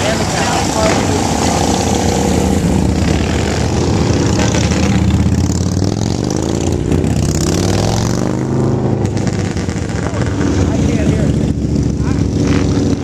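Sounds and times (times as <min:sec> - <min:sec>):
motorcycles riding past: 0:00.0 - 0:13.0.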